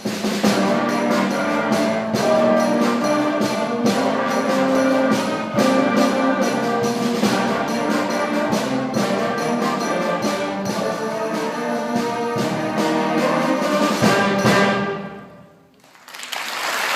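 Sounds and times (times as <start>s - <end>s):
steady percussion beat: 0.0s - 15.4s
sustained brass chords: 0.4s - 15.5s.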